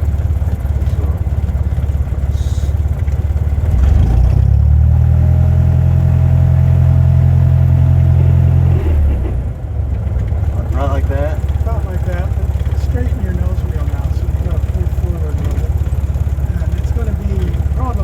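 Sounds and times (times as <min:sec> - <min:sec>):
light aircraft piston engine running: 0:00.0 - 0:18.0.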